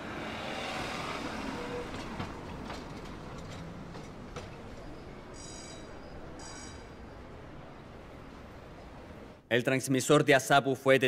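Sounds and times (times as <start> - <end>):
traffic hum: 0.0 - 9.5.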